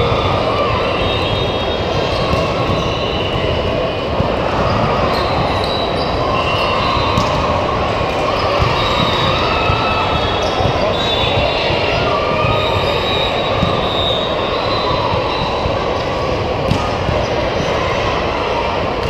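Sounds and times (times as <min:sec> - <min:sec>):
volleyballs hit and bouncing: 0:00.0 - 0:17.9
murmur of players and spectators: 0:00.0 - 0:19.0.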